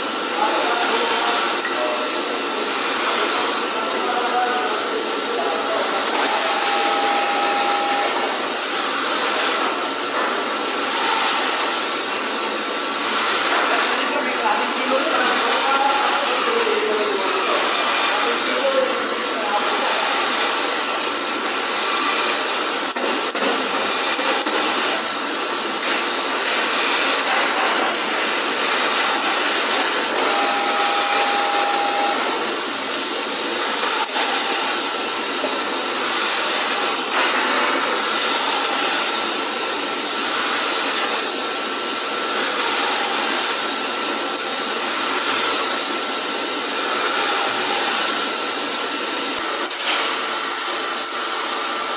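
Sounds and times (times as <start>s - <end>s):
factory machinery din: 0.0s - 51.9s.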